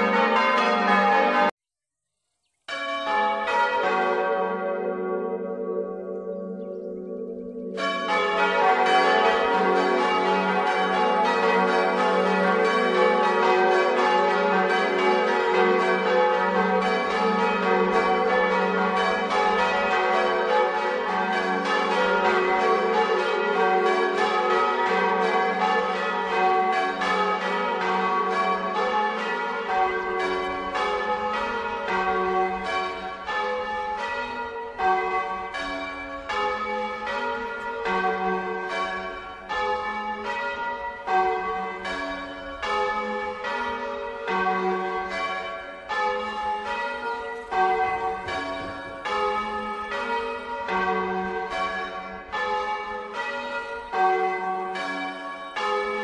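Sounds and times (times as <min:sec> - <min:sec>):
church bells pealing: 0:00.0 - 0:01.5, 0:02.7 - 0:56.0.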